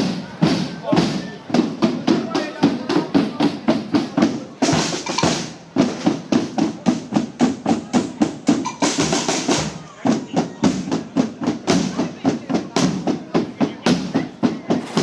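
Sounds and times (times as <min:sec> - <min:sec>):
drums beating a march: 0:00.0 - 0:15.0.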